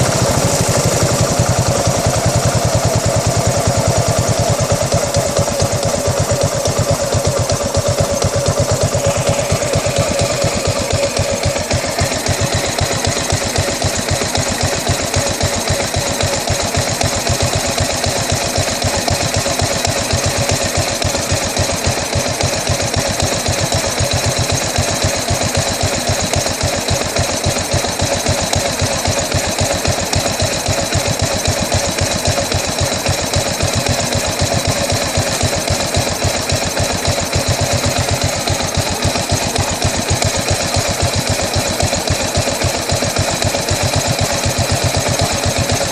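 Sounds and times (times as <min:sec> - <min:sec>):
motorcycle engine idling roughly: 0:00.0 - 0:45.9.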